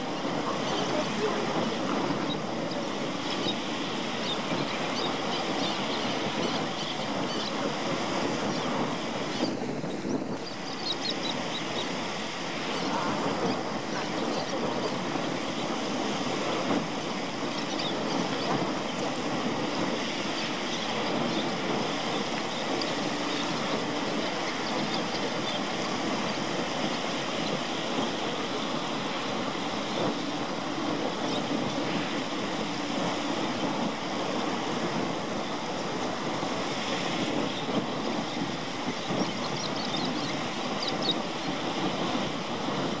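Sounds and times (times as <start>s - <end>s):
small waves lapping on sandy shore: 0.0s - 43.0s.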